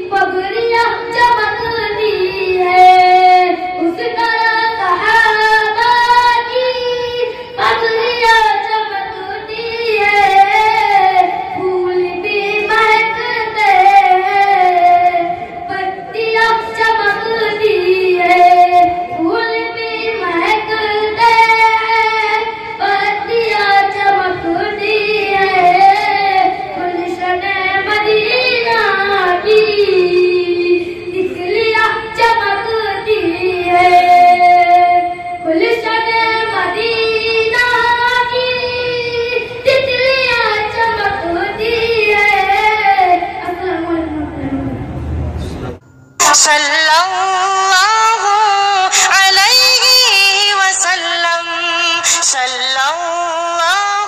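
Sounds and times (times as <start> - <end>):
boy singing into a microphone: 0.0 - 44.8, 46.2 - 54.0.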